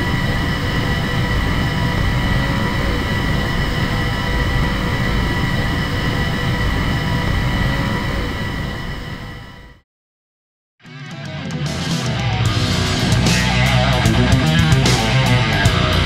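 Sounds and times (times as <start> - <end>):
constant high hum: 0.0 - 9.8, 12.5 - 16.0
low rumble: 0.0 - 9.8, 12.5 - 16.0.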